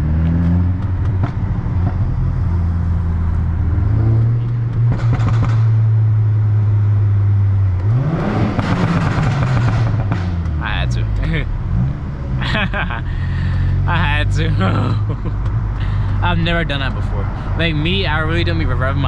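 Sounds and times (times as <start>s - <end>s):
exhaust rush: 0.0s - 19.0s.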